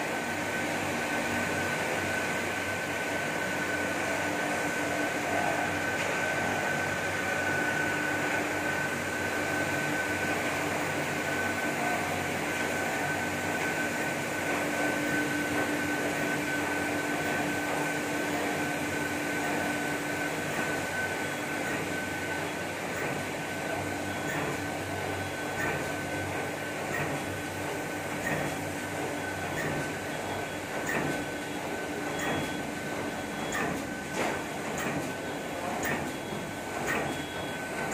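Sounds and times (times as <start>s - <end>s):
machine humming with high whine: 0.0s - 37.9s.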